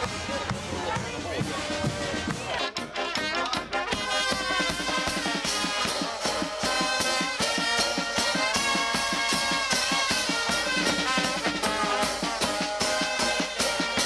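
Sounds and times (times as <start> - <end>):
bass drum and cymbals: 0.0 - 14.0
brass band playing: 0.0 - 14.0.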